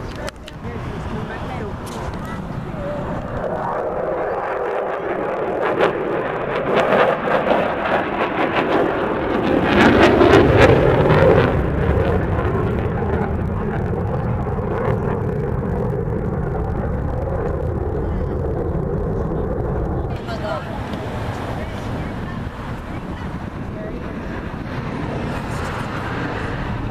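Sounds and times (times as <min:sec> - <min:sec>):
airplane engine passing: 0:00.0 - 0:26.9.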